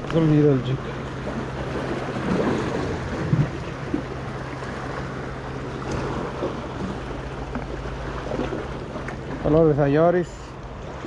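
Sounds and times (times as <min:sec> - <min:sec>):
wind rumbling on microphone: 0:00.0 - 0:09.6
sea washing against rocks: 0:00.0 - 0:11.0.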